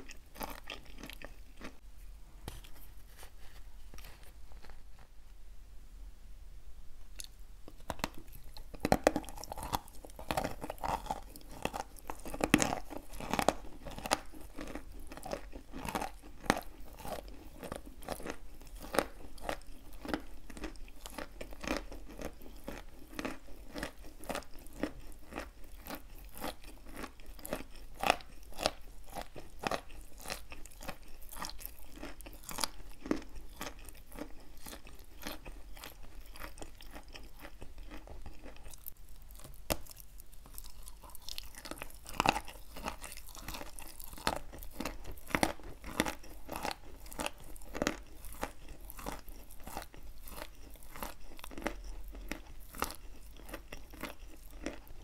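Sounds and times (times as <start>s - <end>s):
chewing with wet crunches: 0.0s - 1.8s, 7.2s - 55.0s.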